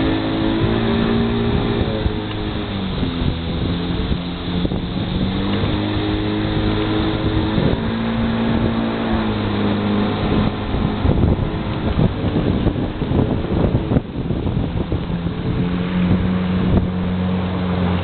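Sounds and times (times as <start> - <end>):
motorboat engine running: 0.0 - 18.0
rushing wind: 0.0 - 18.0
water noise: 0.0 - 18.0.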